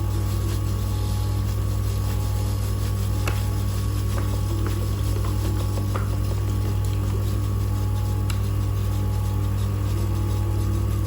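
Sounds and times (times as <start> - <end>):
machine motor hum: 0.0 - 11.0.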